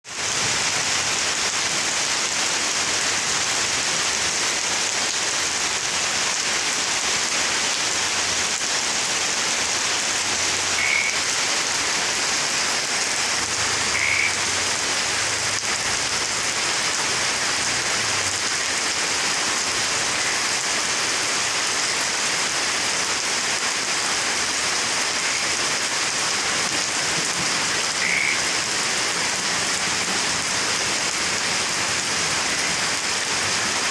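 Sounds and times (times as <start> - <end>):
heavy rain hissing: 0.0 - 33.9.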